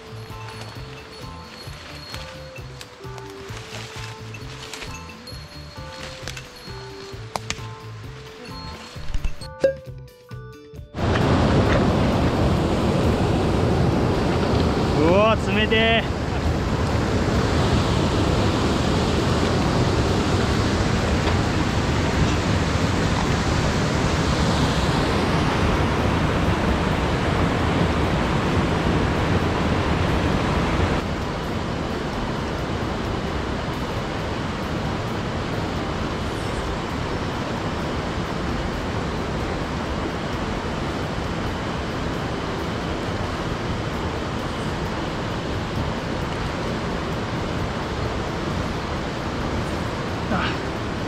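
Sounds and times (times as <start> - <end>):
stream rushing over boulders: 0.0 - 9.5, 11.0 - 51.0.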